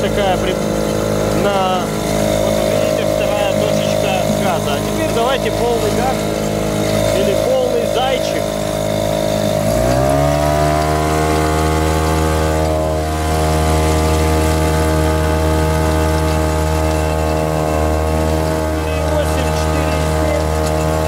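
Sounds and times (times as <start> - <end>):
outboard motor at full throttle: 0.0 - 21.0.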